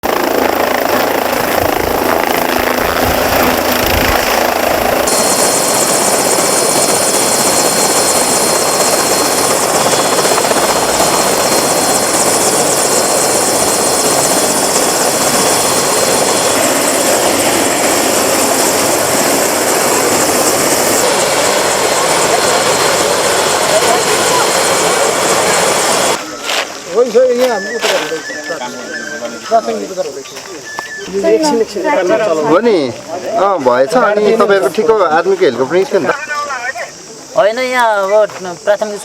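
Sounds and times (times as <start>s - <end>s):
helicopter rotor and engine: 0.0s - 39.0s.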